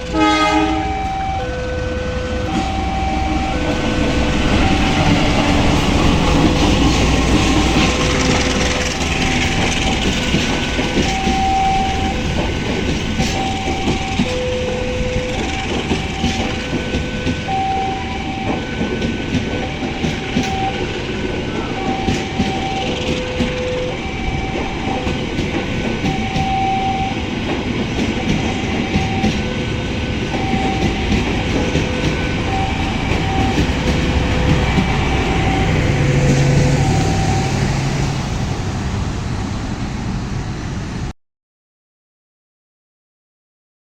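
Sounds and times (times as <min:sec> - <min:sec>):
train wheels clattering: 0:00.0 - 0:39.4
crossing warning alarm tones: 0:00.0 - 0:39.8.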